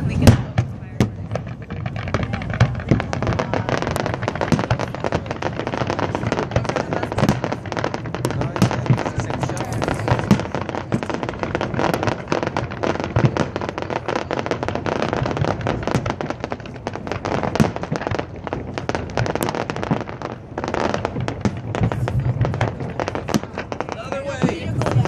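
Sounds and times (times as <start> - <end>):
fireworks crackling: 0.0 - 25.0
sharp firework cracks: 0.0 - 25.0.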